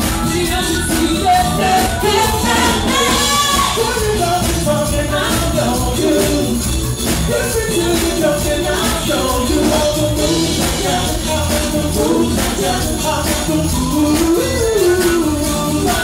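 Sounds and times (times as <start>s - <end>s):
lead vocals singing: 0.0s - 16.0s
live dance band playing: 0.0s - 16.0s.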